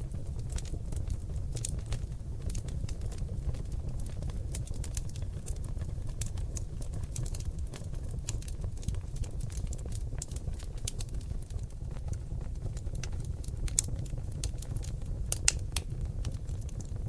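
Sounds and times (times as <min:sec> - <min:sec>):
fire crackling and popping: 0:00.0 - 0:17.0
logs burning in a fireplace: 0:00.0 - 0:17.0.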